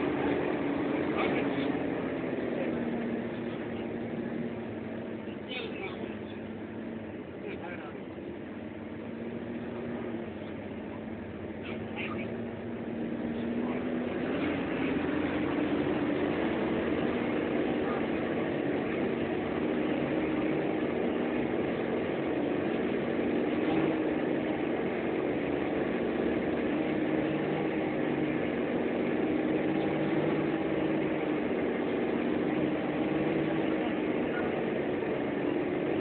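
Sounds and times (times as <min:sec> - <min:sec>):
bus engine droning: 0:00.0 - 0:36.0
road noise: 0:00.0 - 0:36.0.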